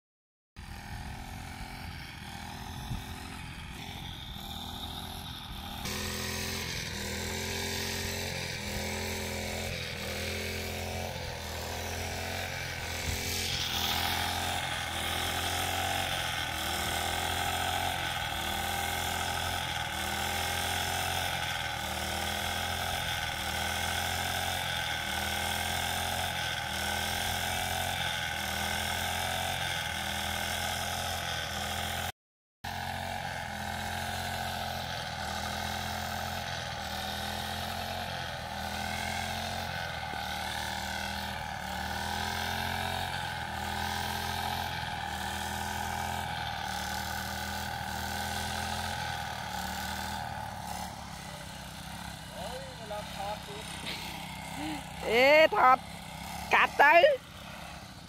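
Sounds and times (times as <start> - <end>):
brush cutter engine droning: 0.6 - 32.1, 32.7 - 58.0.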